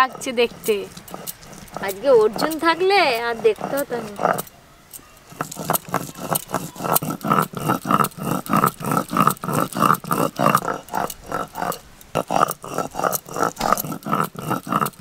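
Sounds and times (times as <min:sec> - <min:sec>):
grinding stone scraping on stone slab: 0:00.0 - 0:04.5, 0:05.2 - 0:15.0.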